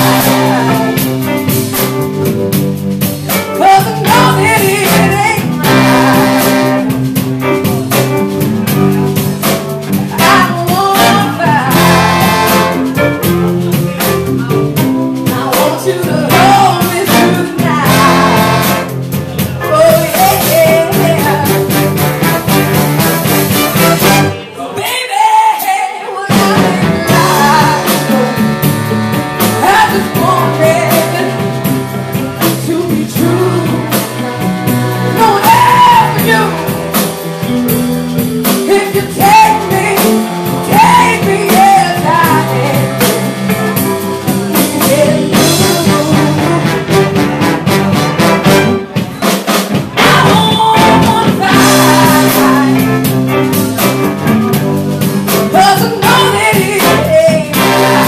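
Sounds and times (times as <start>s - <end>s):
saxophone and trombone horns: 0.0s - 2.9s, 3.5s - 14.6s, 16.2s - 24.6s, 26.3s - 58.0s
electric guitar: 0.0s - 24.5s, 26.3s - 58.0s
keyboard: 0.0s - 25.0s, 26.2s - 58.0s
woman singing lead: 0.0s - 47.5s, 48.5s - 58.0s
drum kit: 0.0s - 58.0s.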